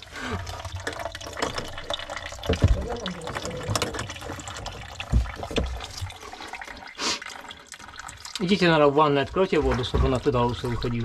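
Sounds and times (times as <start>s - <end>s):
water trickling into a mug: 0.0s - 11.0s.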